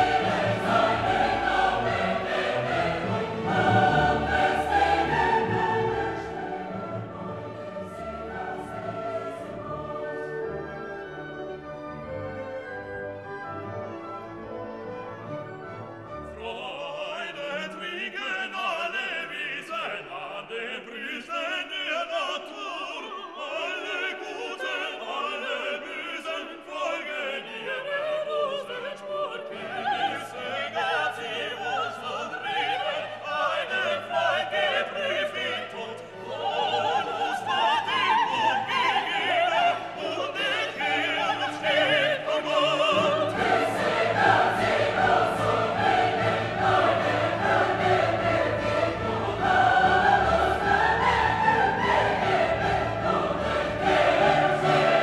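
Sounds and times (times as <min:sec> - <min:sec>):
operatic singing with orchestra: 0:00.0 - 0:55.0.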